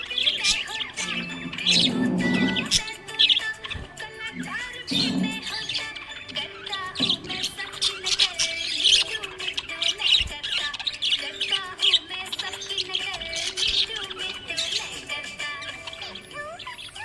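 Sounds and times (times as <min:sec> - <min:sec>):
budgerigar chirping: 0:00.0 - 0:17.0.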